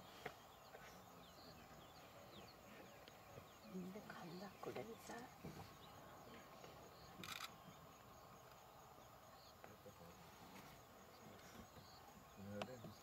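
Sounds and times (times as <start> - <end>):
faint insect chirps: 0.0 - 13.0.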